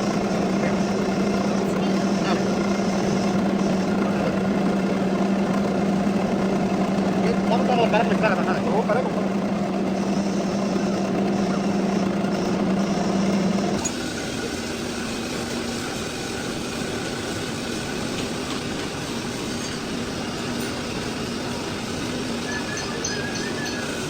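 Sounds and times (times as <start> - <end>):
lathe running with low hum: 0.0 - 24.0.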